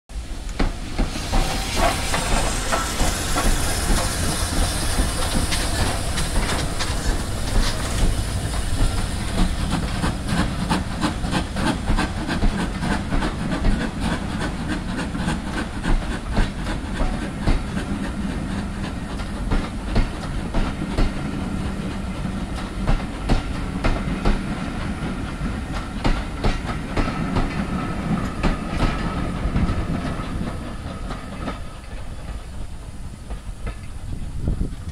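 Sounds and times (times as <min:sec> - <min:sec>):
steam hissing: 0:00.1 - 0:34.9
steam locomotive exhaust beats: 0:00.1 - 0:34.9
train wheels clattering: 0:00.2 - 0:34.9.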